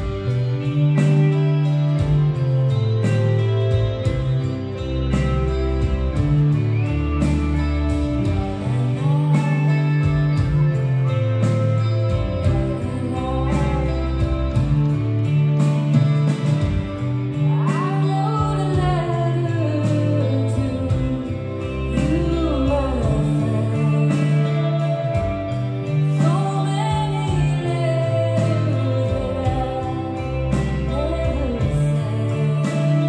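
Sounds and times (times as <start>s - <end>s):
drums and cymbals: 0.0s - 27.8s
electric bass: 0.0s - 33.0s
electric guitar: 0.0s - 33.0s
keyboards: 0.0s - 33.0s
woman singing lead: 0.0s - 33.0s.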